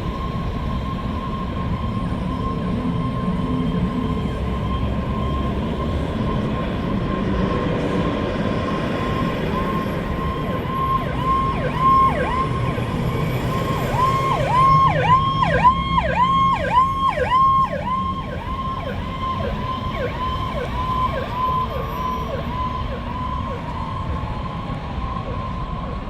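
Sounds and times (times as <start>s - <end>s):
siren yelping: 0.1s - 26.0s.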